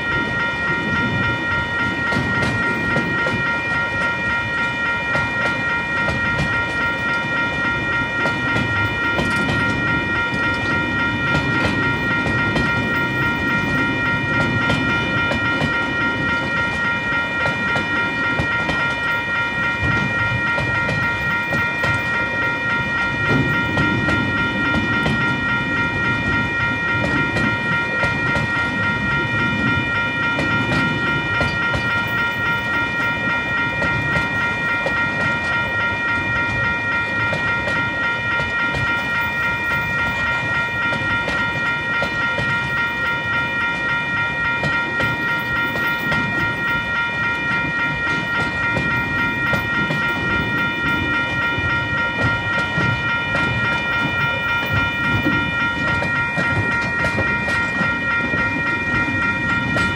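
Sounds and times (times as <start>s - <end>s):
crossing warning bell ringing: 0.0s - 59.9s.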